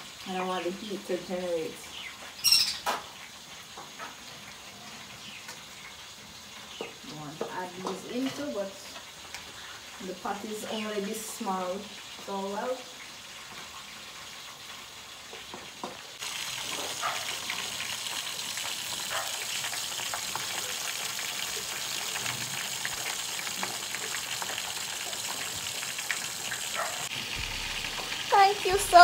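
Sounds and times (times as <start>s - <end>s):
food sizzling in frying pan: 0.0s - 29.0s.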